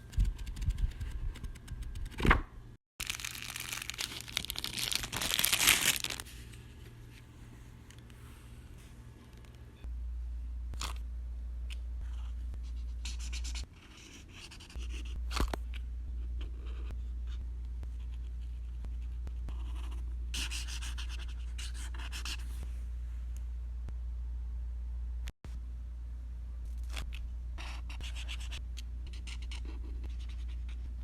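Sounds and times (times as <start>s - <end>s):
steady low hum: 3.8s - 31.0s.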